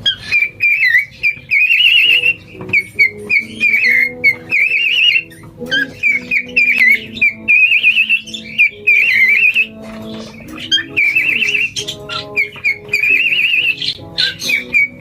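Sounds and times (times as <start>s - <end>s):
bird chirps: 0.0s - 15.0s
cockatiel whistling: 0.0s - 15.0s
faint background music: 0.0s - 15.0s.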